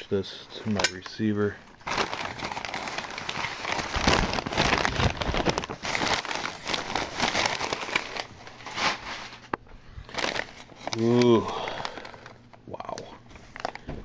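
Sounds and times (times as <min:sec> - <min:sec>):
packing paper crinkling: 0:01.2 - 0:12.4, 0:13.3 - 0:13.9.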